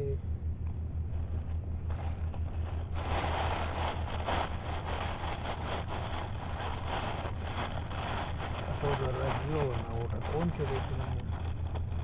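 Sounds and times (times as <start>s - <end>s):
steady low hum: 0.0s - 12.0s
bag rustling: 1.9s - 12.0s.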